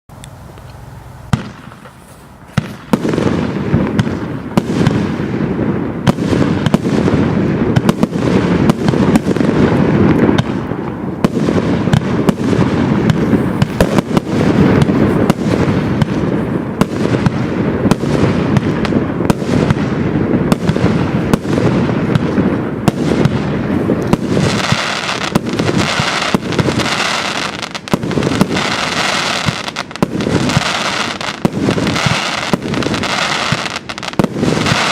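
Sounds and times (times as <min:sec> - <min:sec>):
high-pitched firework hissing: 0:00.1 - 0:34.9
firework bang: 0:01.3 - 0:34.9
firework barrage of shots: 0:01.3 - 0:34.9.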